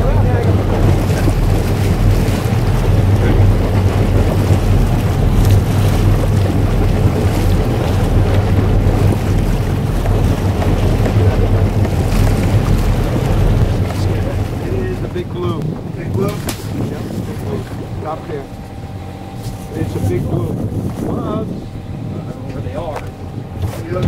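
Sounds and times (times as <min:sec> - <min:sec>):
boat engine humming: 0:00.0 - 0:24.0
wind buffeting microphone: 0:00.0 - 0:24.0.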